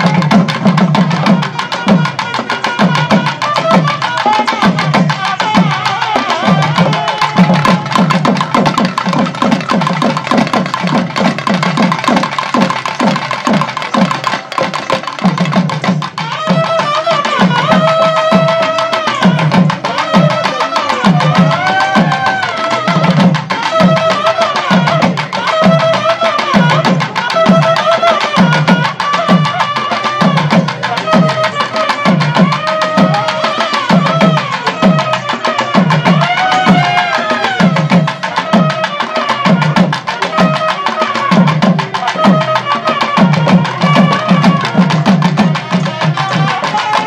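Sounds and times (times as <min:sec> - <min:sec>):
fast continuous drumming: 0:00.0 - 0:47.0
wavering wind instrument melody: 0:00.0 - 0:47.0.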